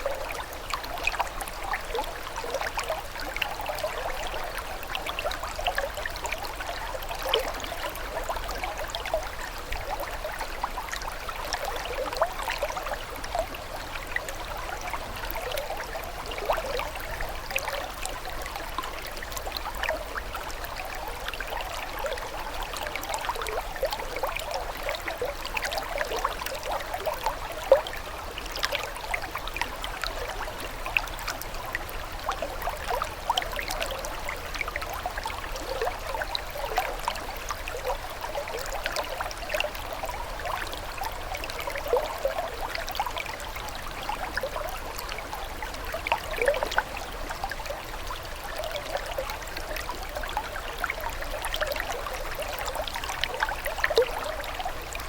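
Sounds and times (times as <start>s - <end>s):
water trickling and babbling: 0.0s - 55.0s.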